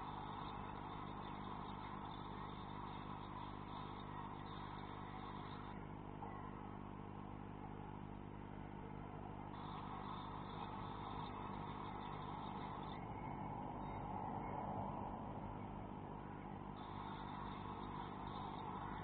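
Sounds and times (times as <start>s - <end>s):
faint hum and hiss: 0.0s - 19.0s.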